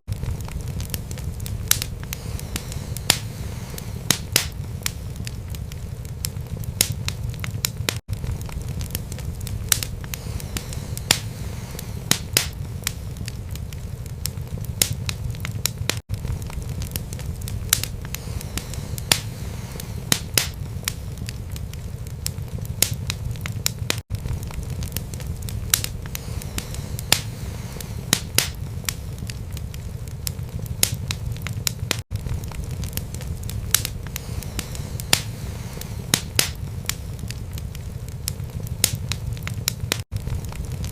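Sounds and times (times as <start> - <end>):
fire crackles and pops: 0.0 - 40.9
fire flames rumbling: 0.0 - 40.9.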